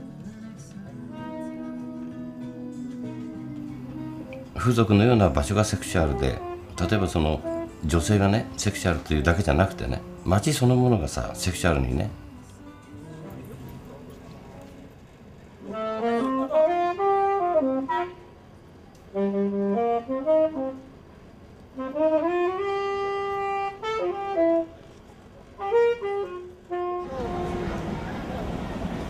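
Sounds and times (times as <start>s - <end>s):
solo saxophone playing jazz: 1.1s - 13.8s, 15.6s - 25.0s, 25.6s - 29.0s.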